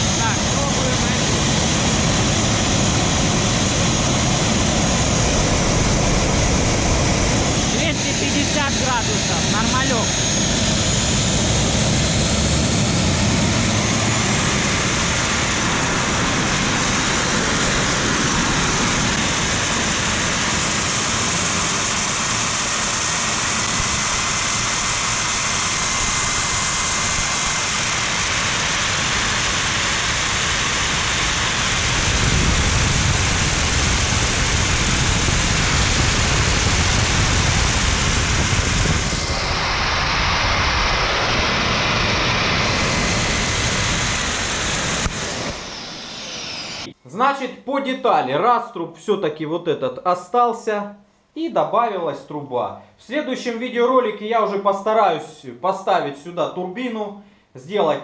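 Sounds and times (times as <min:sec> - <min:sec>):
model turbojet engine roaring: 0:00.0 - 0:47.0.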